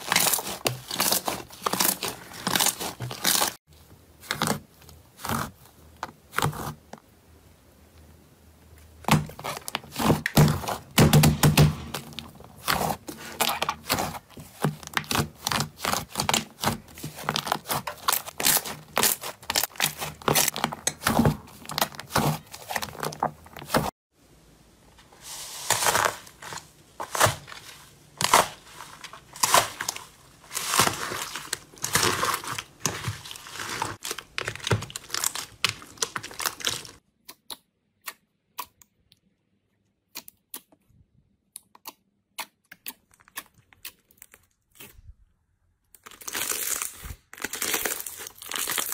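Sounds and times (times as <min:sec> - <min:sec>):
slime crackling and squelching: 0:00.0 - 0:07.0, 0:08.7 - 0:24.0, 0:25.1 - 0:39.1, 0:41.7 - 0:45.2, 0:45.9 - 0:48.9.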